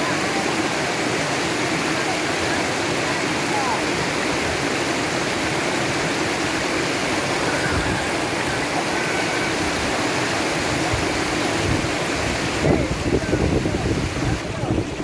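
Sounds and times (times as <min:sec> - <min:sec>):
river rapids rushing over boulders: 0:00.0 - 0:15.0.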